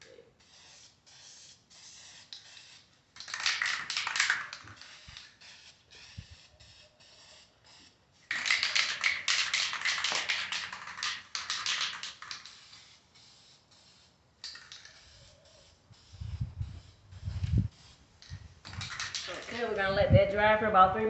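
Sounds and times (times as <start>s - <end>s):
aerosol spray hiss: 0.0s - 8.9s, 11.3s - 19.7s
aerosol can mixing ball rattling: 0.4s - 20.1s.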